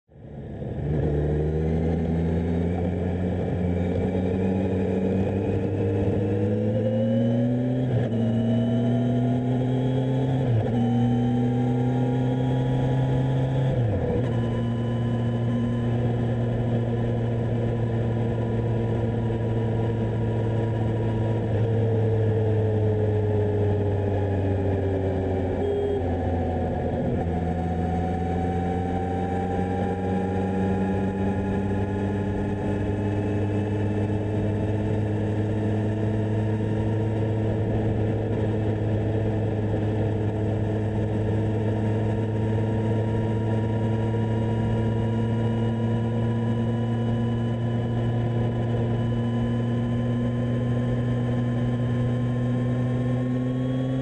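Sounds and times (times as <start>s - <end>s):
motorcycle engine accelerating: 0.1s - 54.0s.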